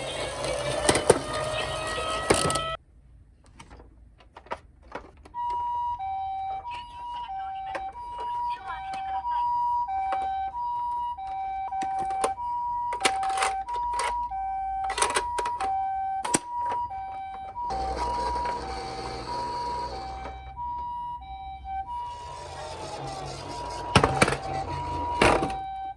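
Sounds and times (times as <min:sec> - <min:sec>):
toy two-tone siren: 0:00.0 - 0:02.8, 0:05.3 - 0:25.9.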